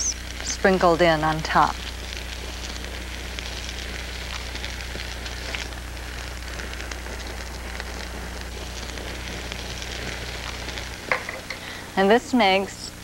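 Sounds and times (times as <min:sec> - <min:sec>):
fruit sizzling in a skillet: 0:00.0 - 0:13.0.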